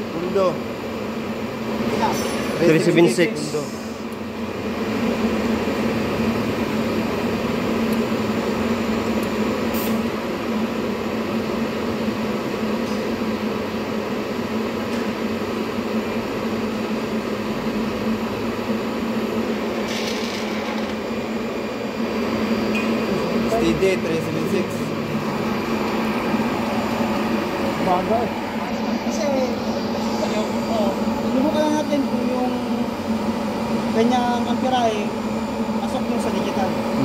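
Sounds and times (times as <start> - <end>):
welding machine humming and hissing: 0.0 - 37.0.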